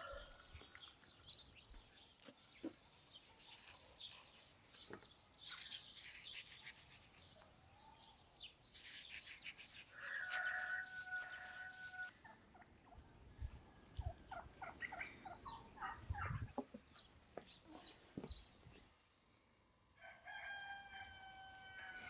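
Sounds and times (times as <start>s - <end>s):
farmyard birds calling: 0.0s - 18.6s, 21.0s - 22.0s.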